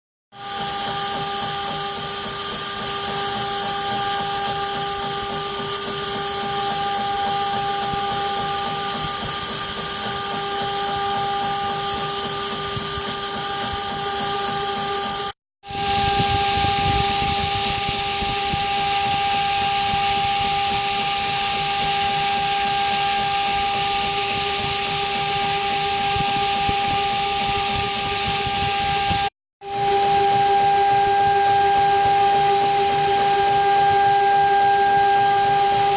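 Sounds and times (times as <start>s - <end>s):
router spindle high whine: 0.3s - 35.9s.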